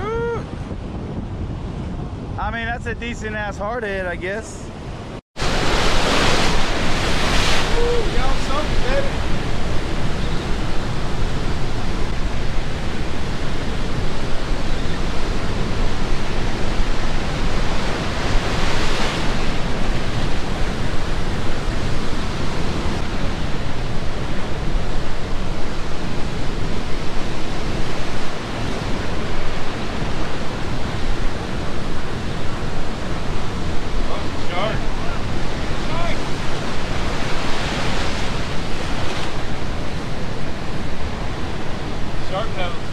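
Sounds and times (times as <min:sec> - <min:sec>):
surf washing: 0:00.0 - 0:42.9
wind rumble on microphone: 0:00.0 - 0:42.9.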